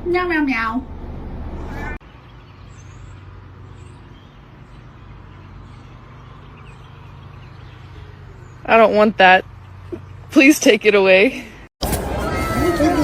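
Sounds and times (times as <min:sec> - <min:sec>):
low mechanical hum: 0:00.0 - 0:11.2.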